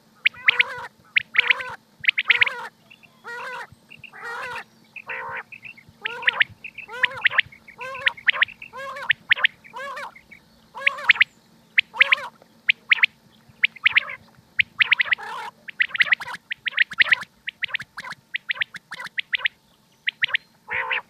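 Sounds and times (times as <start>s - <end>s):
faint steady hum: 0.0s - 21.0s
quail calling: 0.0s - 21.0s.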